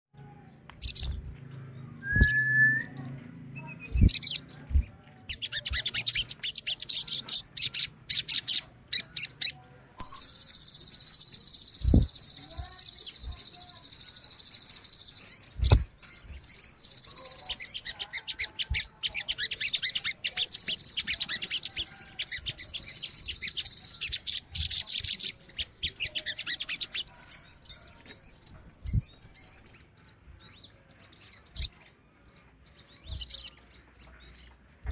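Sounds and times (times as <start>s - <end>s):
birds chattering: 0.2s - 34.9s.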